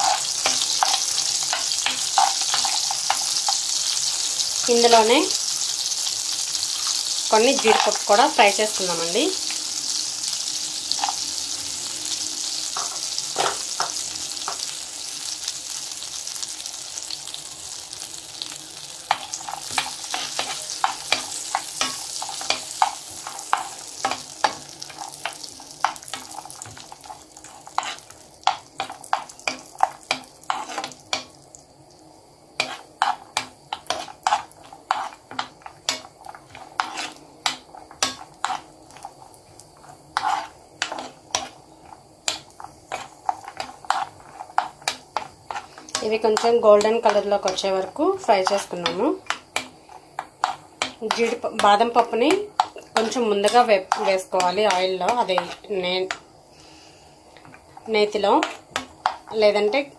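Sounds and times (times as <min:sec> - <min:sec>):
nuts sizzling in a pan: 0:00.0 - 0:59.9.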